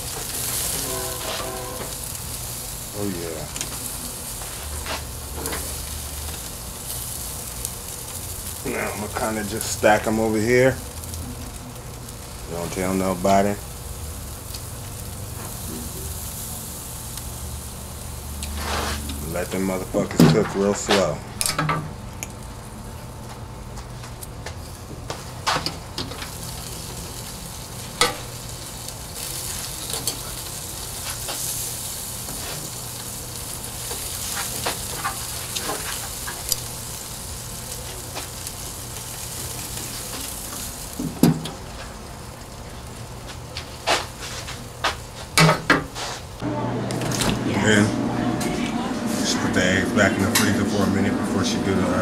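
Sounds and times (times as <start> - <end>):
ribs sizzling on a grill: 0.0 - 21.2, 21.8 - 52.0.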